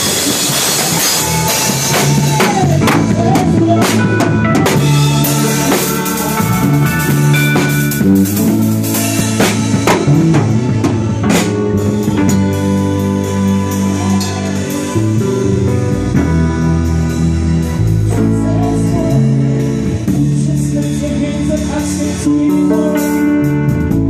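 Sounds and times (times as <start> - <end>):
drums beating: 0.0 - 24.0
gospel band music: 0.0 - 24.0.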